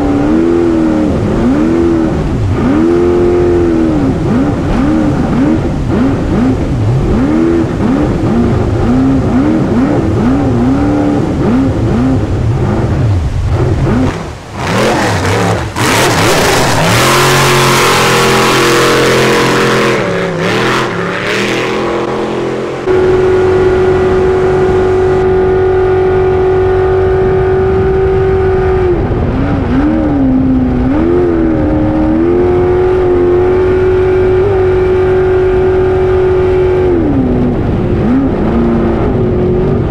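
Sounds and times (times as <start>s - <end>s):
boat engine at high revs: 0.0s - 39.9s
rushing water and wind: 0.0s - 39.9s.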